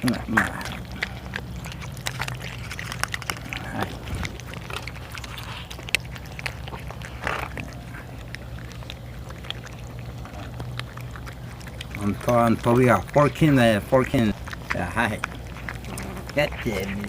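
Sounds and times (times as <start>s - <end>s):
kittens chewing and lapping: 0.0s - 17.0s
steady low hum: 0.0s - 17.0s.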